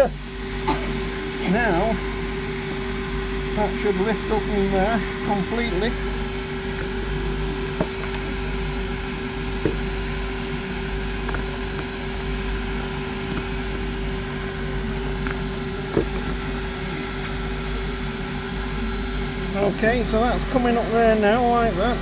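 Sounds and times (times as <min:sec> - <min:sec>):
workshop machine hum: 0:00.0 - 0:22.0.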